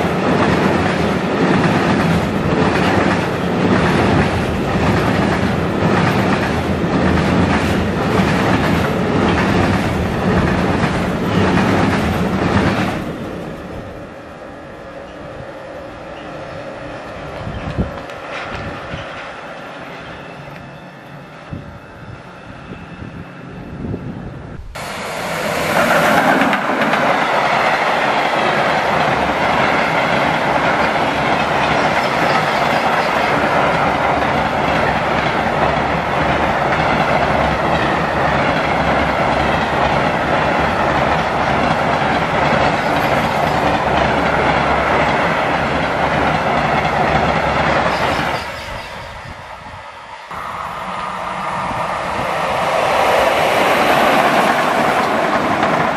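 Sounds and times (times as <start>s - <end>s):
train wheels clattering on rails: 0.0s - 13.3s, 17.3s - 20.7s, 24.7s - 49.5s, 51.0s - 55.9s
freight train passing: 0.0s - 55.9s
train approaching: 0.0s - 55.9s.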